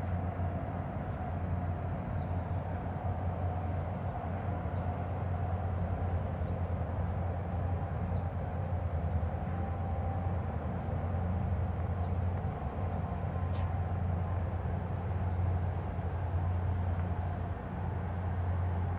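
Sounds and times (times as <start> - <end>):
diesel boat engines droning: 0.0 - 18.9.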